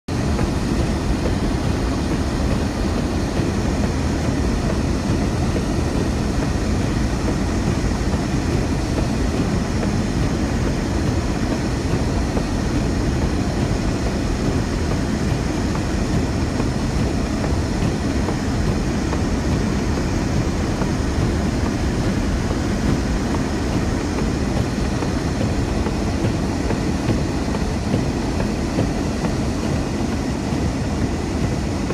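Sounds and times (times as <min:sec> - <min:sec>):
steady low rumbling: 0:00.1 - 0:31.9.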